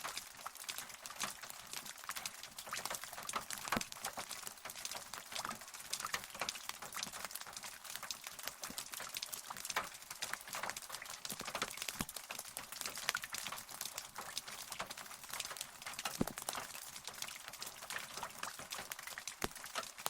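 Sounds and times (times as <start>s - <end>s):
rain patter: 0.0s - 20.0s.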